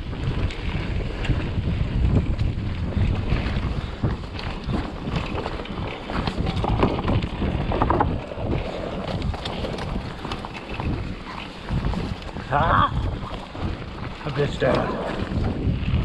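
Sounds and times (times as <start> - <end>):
mountain bike rattling and knocking: 0.0 - 16.0
wind buffeting microphone: 0.0 - 16.0.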